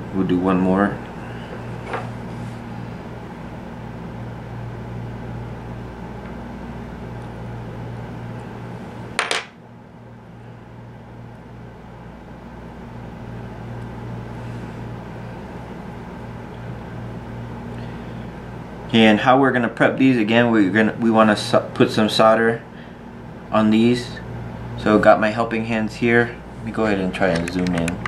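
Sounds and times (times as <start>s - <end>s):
electrical fan hum: 0.0s - 28.0s.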